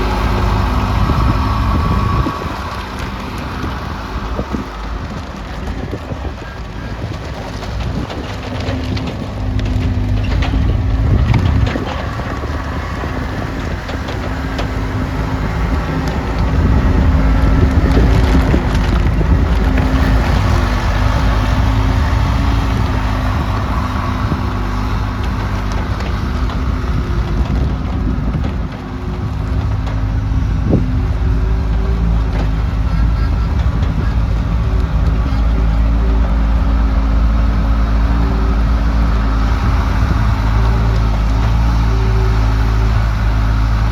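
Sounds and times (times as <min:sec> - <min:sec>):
skid steer diesel engine running: 0:00.0 - 0:43.9.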